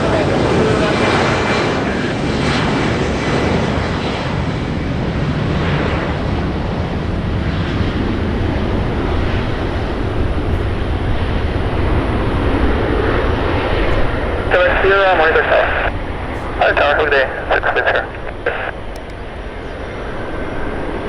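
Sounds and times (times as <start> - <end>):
jet airliner passing: 0.0 - 21.0.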